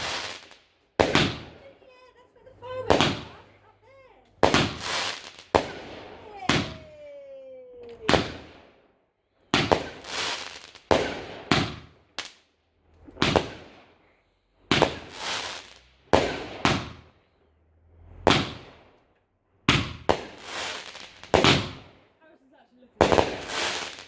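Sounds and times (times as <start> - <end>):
fireworks bangs: 0.0 - 8.8, 9.4 - 12.4, 13.0 - 14.0, 14.6 - 17.3, 17.9 - 19.1, 19.7 - 24.0.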